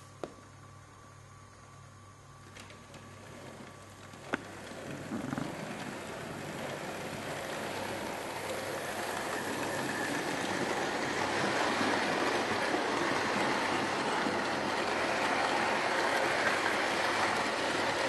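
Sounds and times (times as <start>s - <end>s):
model train whirring rumble: 2.4s - 18.0s.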